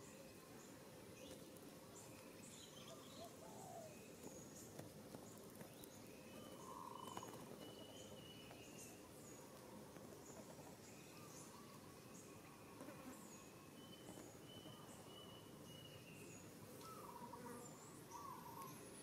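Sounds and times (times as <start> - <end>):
bird calls: 0.0 - 19.0.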